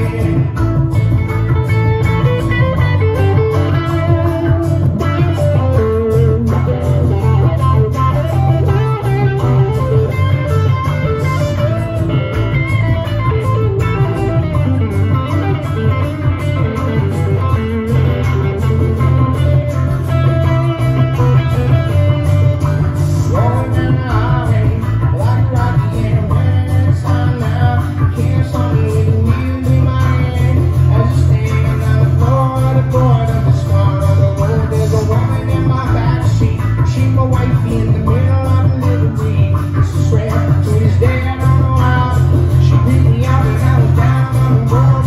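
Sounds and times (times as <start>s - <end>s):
amplified electric guitar playing: 0.0s - 45.0s
low bass line: 0.0s - 45.0s
person singing: 0.0s - 45.0s.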